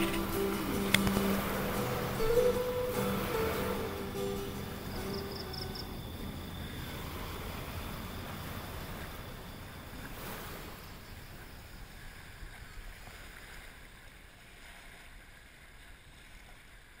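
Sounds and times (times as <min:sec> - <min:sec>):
wind rumbling on microphone: 0:00.0 - 0:14.0
small waves washing onto sand: 0:00.0 - 0:17.0.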